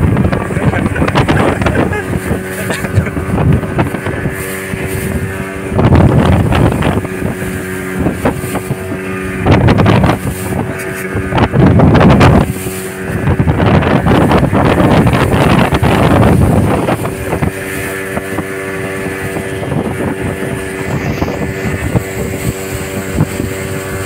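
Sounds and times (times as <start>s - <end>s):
motorboat engine running: 0.0s - 24.0s
wind buffeting microphone: 0.0s - 24.0s.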